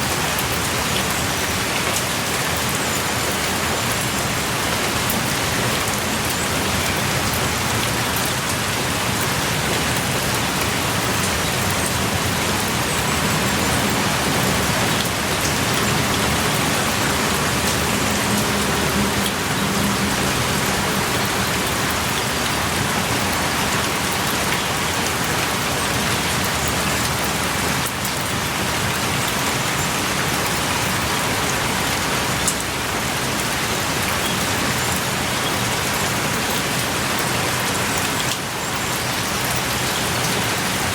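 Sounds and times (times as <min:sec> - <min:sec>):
heavy rain pouring: 0:00.0 - 0:40.9
raindrops ticking: 0:00.0 - 0:40.9.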